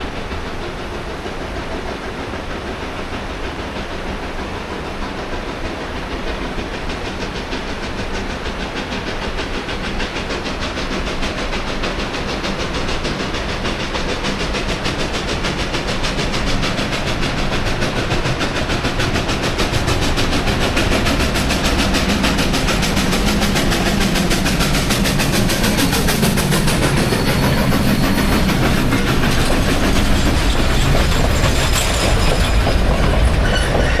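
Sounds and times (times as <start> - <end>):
steam hissing: 0.0 - 34.0
steam locomotive approaching: 0.0 - 34.0.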